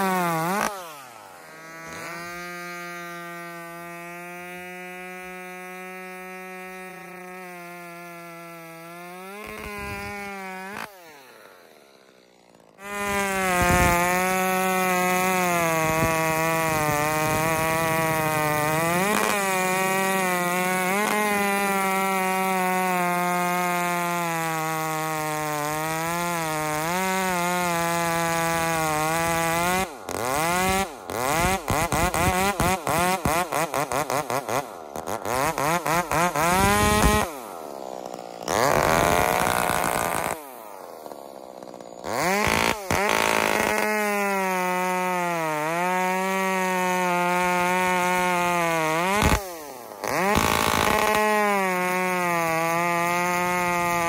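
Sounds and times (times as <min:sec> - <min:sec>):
chainsaw engine buzzing: 0:00.0 - 0:54.0.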